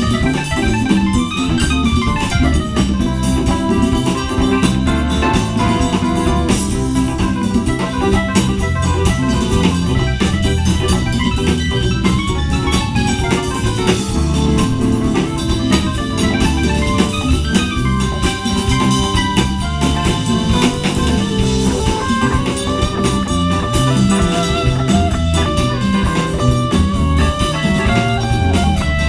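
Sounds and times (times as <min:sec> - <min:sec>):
drum kit beats: 0:00.0 - 0:29.0
electronic organ: 0:00.0 - 0:29.0.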